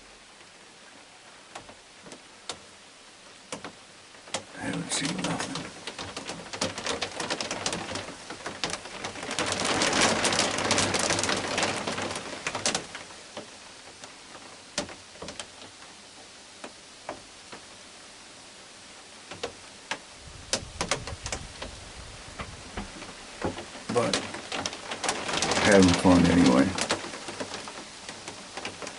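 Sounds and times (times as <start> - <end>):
rain falling: 0.0 - 28.9
raindrops tapping: 1.4 - 17.8, 19.2 - 28.9.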